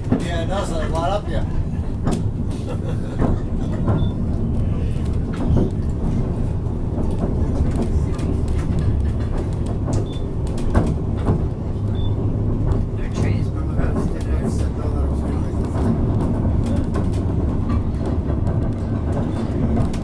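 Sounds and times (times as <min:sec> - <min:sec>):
train rumbling: 0:00.0 - 0:20.0
train wheels clicking: 0:00.0 - 0:20.0.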